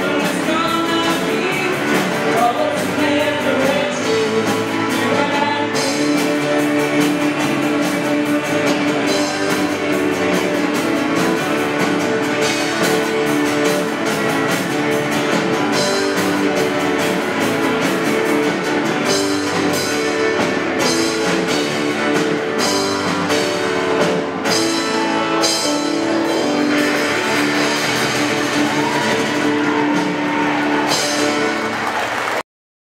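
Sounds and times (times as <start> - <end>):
rock music with guitar and drums: 0.0 - 32.1.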